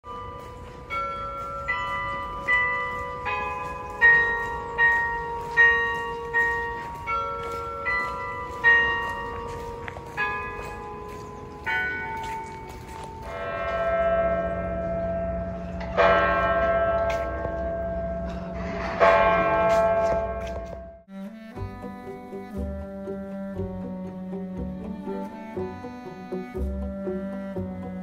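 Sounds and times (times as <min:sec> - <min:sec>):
tuned bells playing melody: 0:00.0 - 0:18.2, 0:21.6 - 0:28.0.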